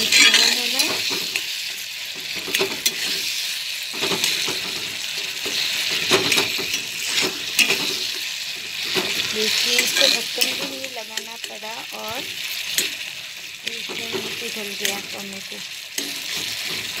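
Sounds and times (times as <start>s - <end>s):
metal spatula scraping pan: 0.0s - 1.5s, 2.2s - 17.0s
masala sizzling in hot oil: 0.0s - 17.0s.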